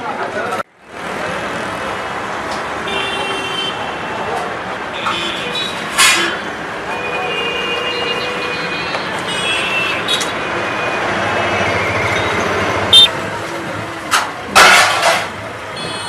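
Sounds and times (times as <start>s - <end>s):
street food stall clamour: 0.0s - 16.0s
traffic noise: 0.0s - 16.0s.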